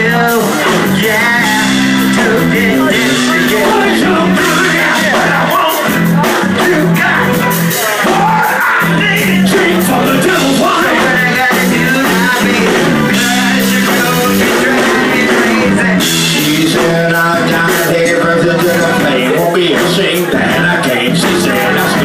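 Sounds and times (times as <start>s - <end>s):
rock and roll band music: 0.0s - 22.0s.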